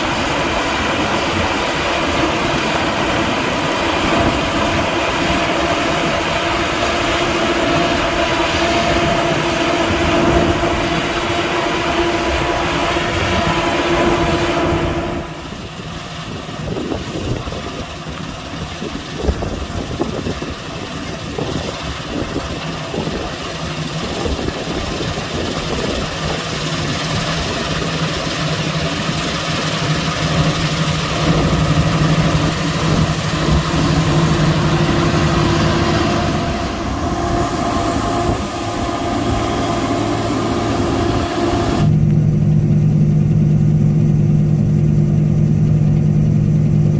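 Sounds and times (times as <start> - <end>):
combine harvester running: 0.0 - 46.9
steady low hum: 0.0 - 46.9.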